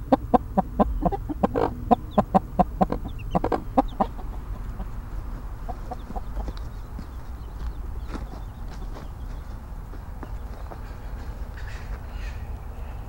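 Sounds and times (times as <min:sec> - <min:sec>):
hen clucking: 0:00.0 - 0:09.6, 0:10.3 - 0:12.9
chicks peeping: 0:00.0 - 0:13.0.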